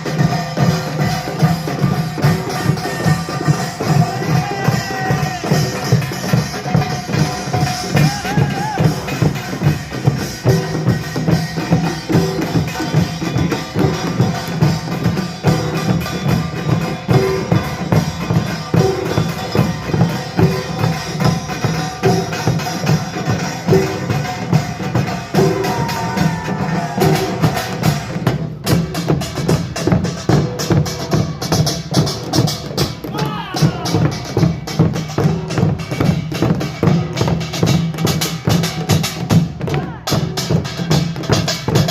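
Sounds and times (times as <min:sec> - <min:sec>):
drums beating fast rhythm: 0:00.0 - 0:41.9.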